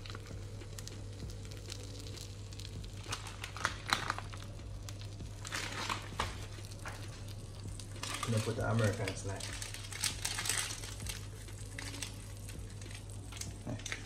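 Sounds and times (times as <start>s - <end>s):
crackles and pops: 0.0s - 14.0s
low steady hum: 0.0s - 14.0s
toast sizzling in oil: 0.0s - 14.0s.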